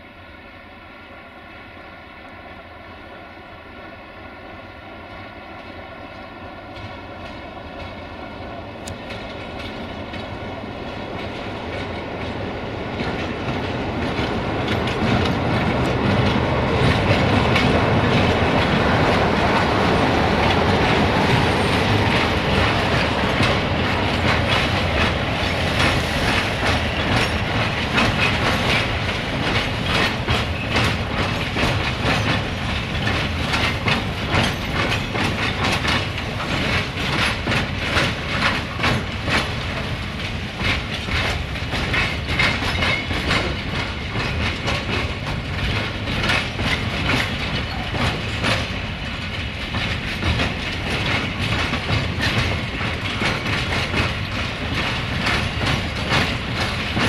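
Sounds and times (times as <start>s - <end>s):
train engine hum: 0.0s - 57.0s
wheels clattering over rail joints: 8.8s - 57.0s.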